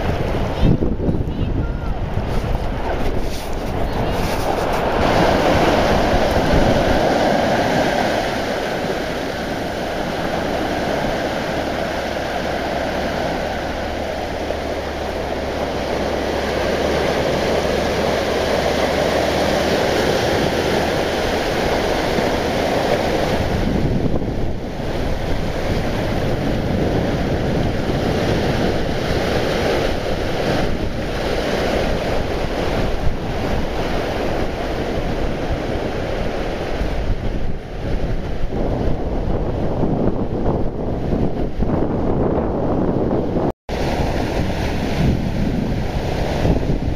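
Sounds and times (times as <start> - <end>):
waves washing on beach: 0.0 - 46.9
wind on microphone: 0.0 - 46.9.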